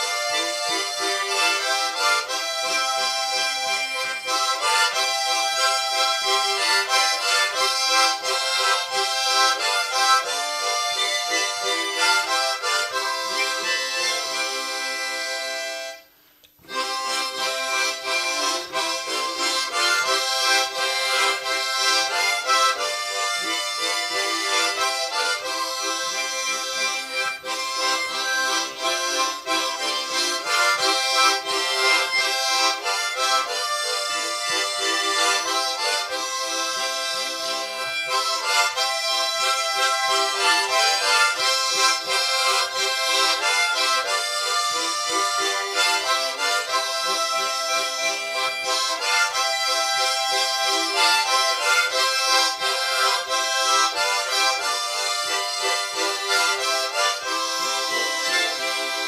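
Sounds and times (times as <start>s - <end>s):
harmonica ensemble playing: 0.0s - 59.0s.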